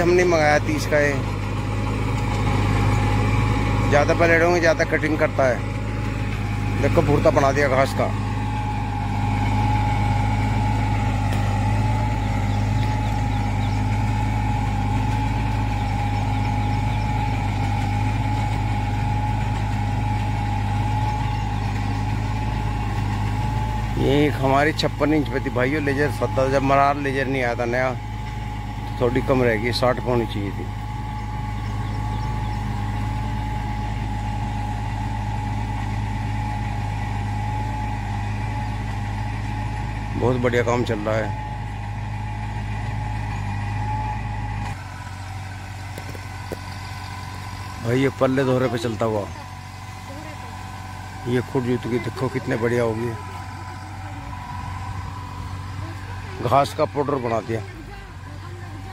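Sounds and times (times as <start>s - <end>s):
rotavator churning soil: 0.0s - 58.9s
steady whine: 0.0s - 58.9s
tractor diesel engine running: 0.0s - 58.9s.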